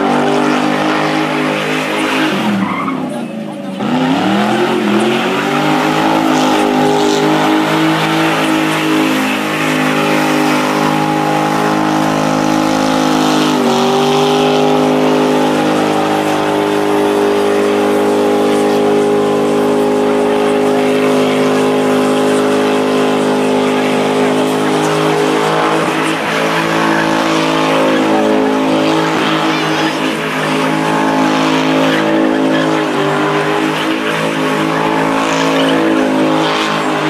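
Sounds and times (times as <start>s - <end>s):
car engine revving: 0.0s - 37.0s
tyres screeching: 0.0s - 37.0s.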